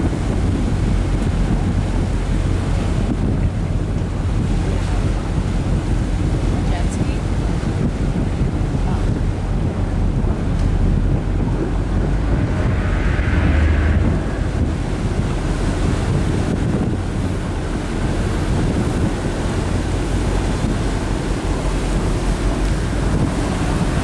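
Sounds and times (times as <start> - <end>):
steady low rumble: 0.0 - 24.0
water rushing along hull: 0.0 - 24.0
wind buffeting microphone: 0.0 - 24.0.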